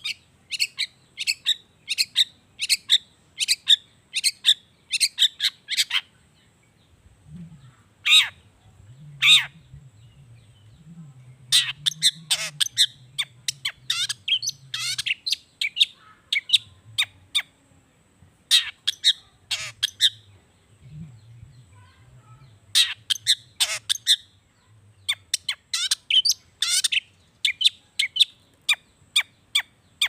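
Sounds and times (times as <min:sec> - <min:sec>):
bird singing sharp trills: 0:00.0 - 0:17.6, 0:18.5 - 0:30.0.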